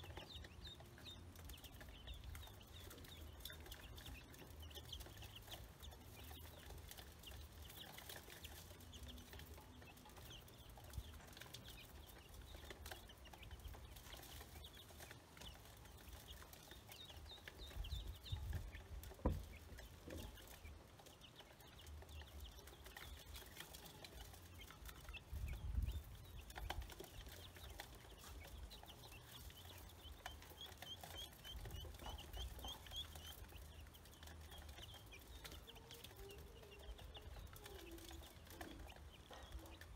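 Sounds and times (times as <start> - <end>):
chicks and ducklings peeping: 0.0 - 39.9.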